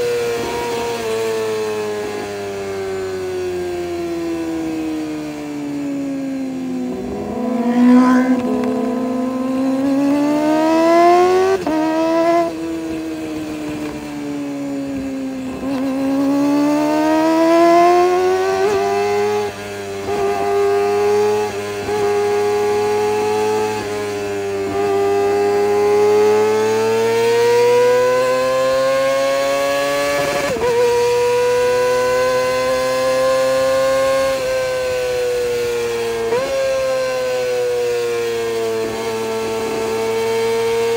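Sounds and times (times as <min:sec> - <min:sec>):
motorcycle engine revving high: 0:00.0 - 0:40.9.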